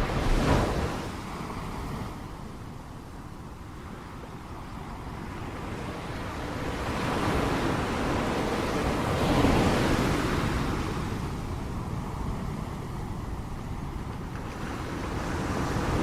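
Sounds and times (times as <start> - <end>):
ocean waves crashing: 0.0 - 16.0.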